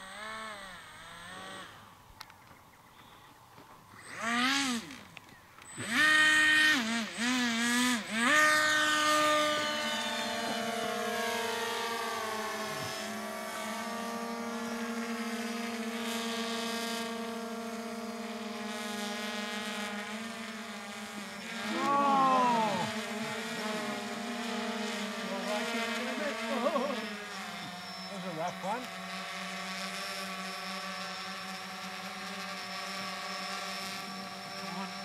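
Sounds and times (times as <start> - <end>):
electric motor and propeller whine: 0.0 - 35.0.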